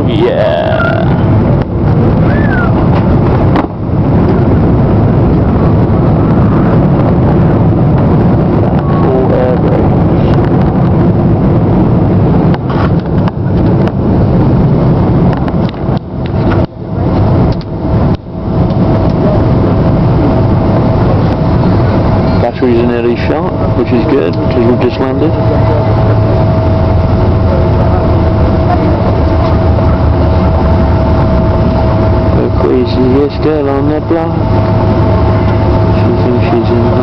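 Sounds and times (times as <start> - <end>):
airliner engines and rushing air: 0.0 - 37.0.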